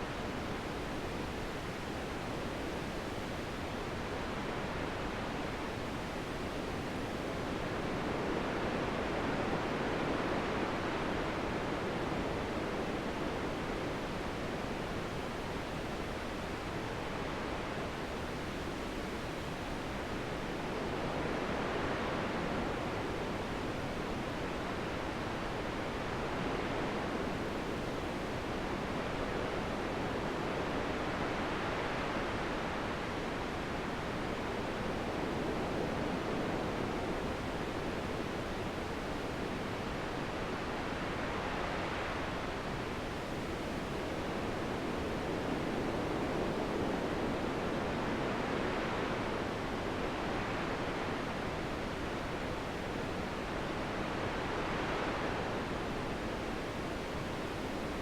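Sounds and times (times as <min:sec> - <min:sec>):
steady wind: 0:00.0 - 0:58.0.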